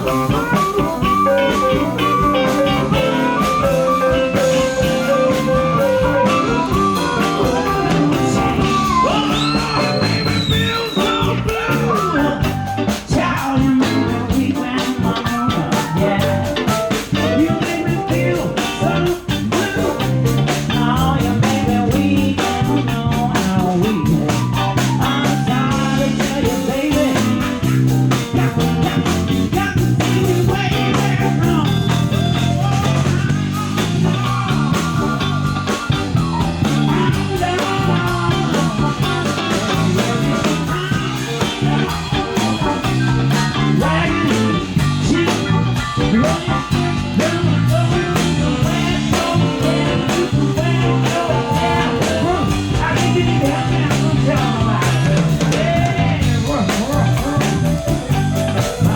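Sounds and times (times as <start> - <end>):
bass guitar: 0.0 - 58.9
drum kit beat: 0.0 - 58.9
electric guitar: 0.0 - 58.9
person singing: 0.0 - 58.9.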